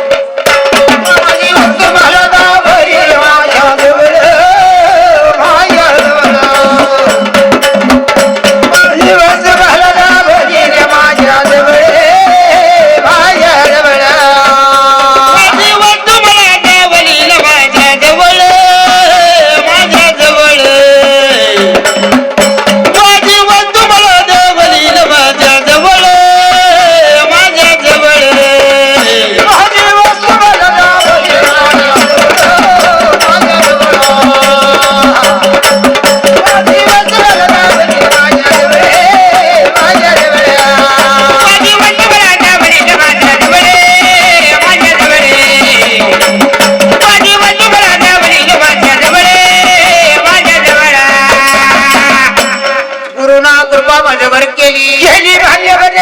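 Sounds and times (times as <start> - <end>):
hand drum and percussion beat: 0.0 - 53.2.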